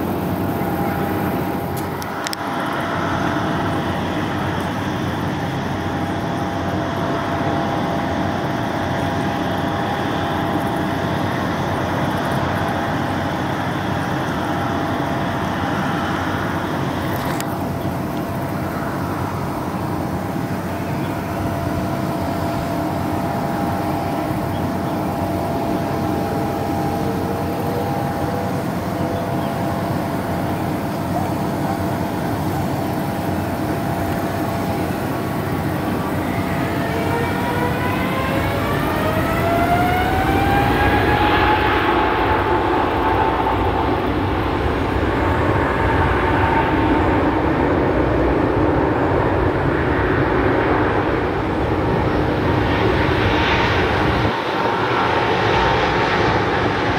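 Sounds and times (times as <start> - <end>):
distant jet engines rumbling: 0.0 - 56.9
thin steady whine: 0.0 - 56.9.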